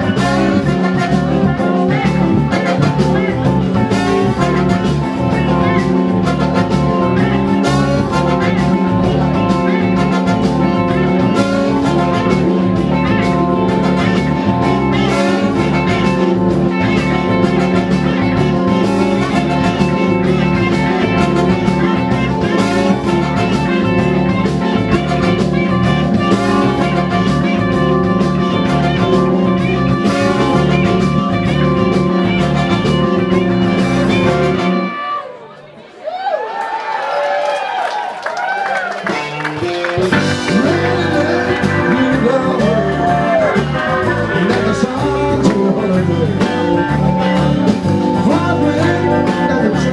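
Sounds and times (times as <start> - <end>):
steady drum beat: 0.0 - 34.8, 39.3 - 49.9
electric bass: 0.0 - 35.0, 39.0 - 49.9
horns: 0.0 - 35.8, 37.8 - 49.9.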